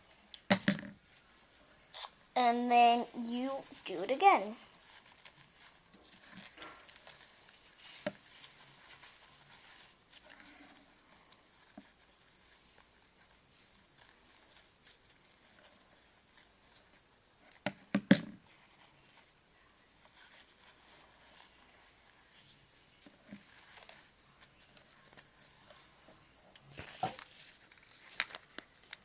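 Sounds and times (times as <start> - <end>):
rustling craft material: 0.0 - 29.0.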